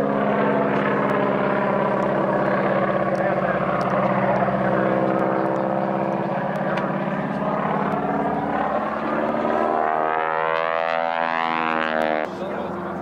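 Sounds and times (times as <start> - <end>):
sweeping rising tone: 0.0 - 12.4
propeller airplane engine droning: 0.0 - 13.0.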